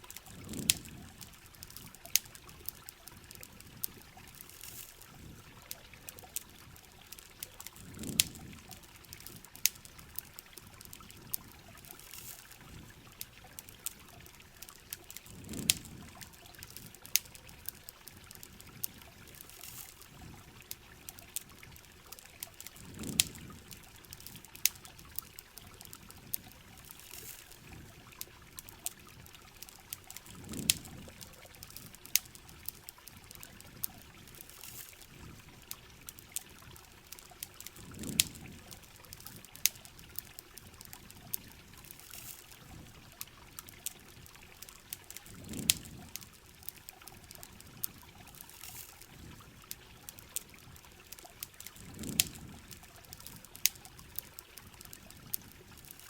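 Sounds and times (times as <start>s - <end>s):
campfire crackles: 0.0s - 56.0s
rain: 0.0s - 56.0s
running water trickling: 0.0s - 56.0s.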